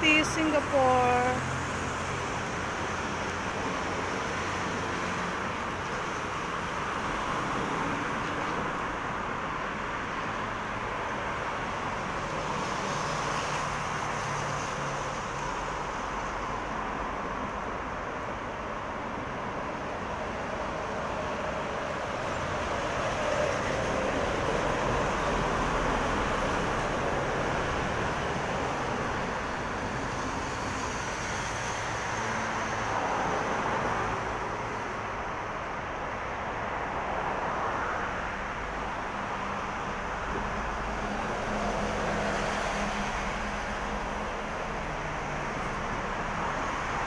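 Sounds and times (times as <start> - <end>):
cars passing by: 0.0 - 47.0
road traffic hum: 0.0 - 47.0.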